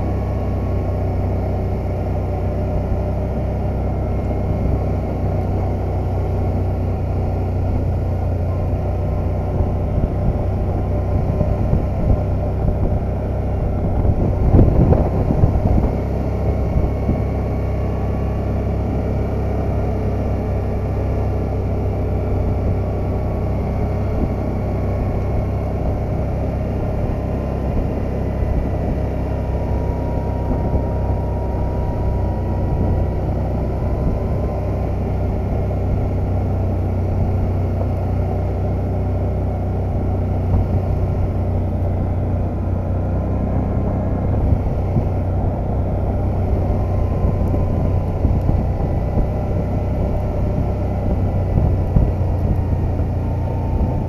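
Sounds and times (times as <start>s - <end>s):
atv engine running: 0.0s - 54.0s
faint whine: 0.0s - 54.0s.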